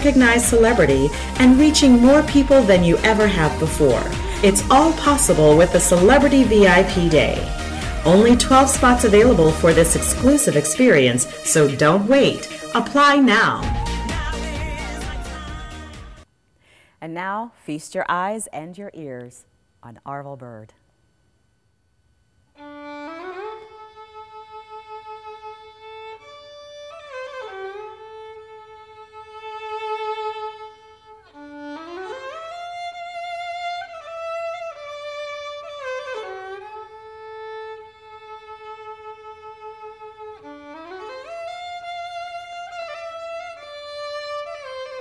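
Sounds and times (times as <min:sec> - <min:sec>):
solo violin melody: 0:00.0 - 0:15.6, 0:22.6 - 0:45.0.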